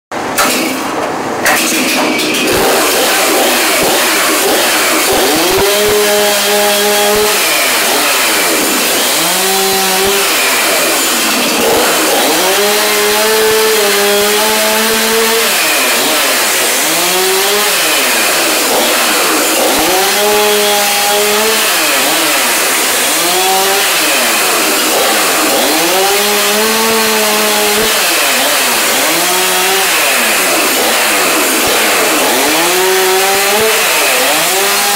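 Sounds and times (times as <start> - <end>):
chainsaw revving: 2.3 - 34.9.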